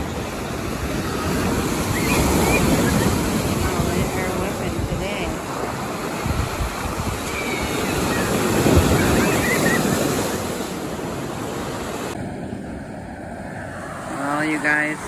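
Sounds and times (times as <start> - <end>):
waves crashing on pebble beach: 0.0 - 12.2
wind buffeting microphone: 0.0 - 15.0.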